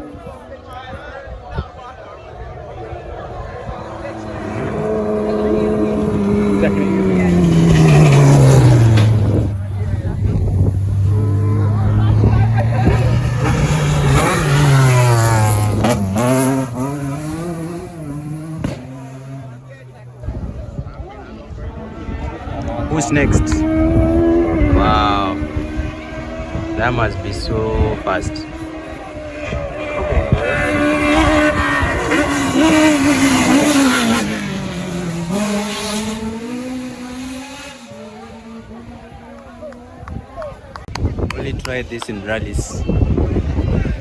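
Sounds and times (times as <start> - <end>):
rally car engine revving: 3.0 - 40.8.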